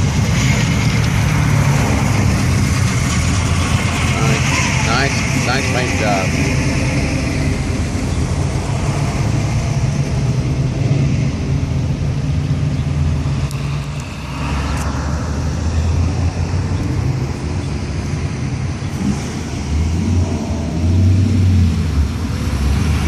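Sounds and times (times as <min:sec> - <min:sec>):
cars rolling past: 0:00.0 - 0:23.0.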